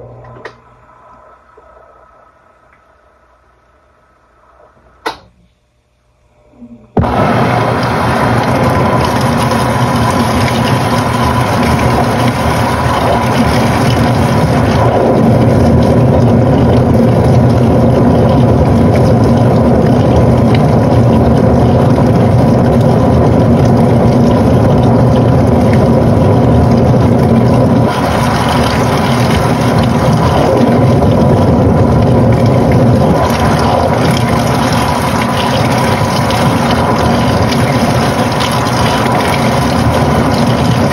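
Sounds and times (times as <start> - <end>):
washing machine running: 0.0 - 5.4, 6.1 - 40.9.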